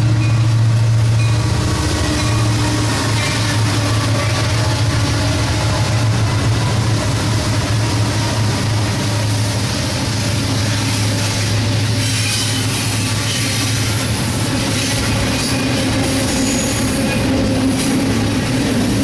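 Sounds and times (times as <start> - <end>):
train wheels rumbling on rail: 0.0 - 19.0
high wheel squeal: 1.2 - 17.9.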